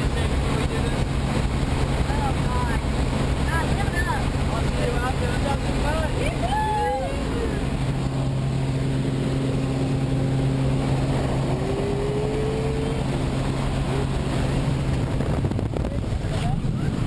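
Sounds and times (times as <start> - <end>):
plane engine and propeller drone: 0.0 - 17.0.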